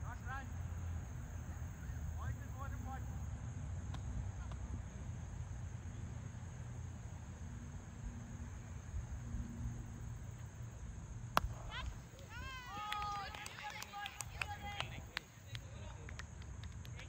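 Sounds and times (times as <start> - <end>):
faint high-pitched hum: 0.0 - 17.0.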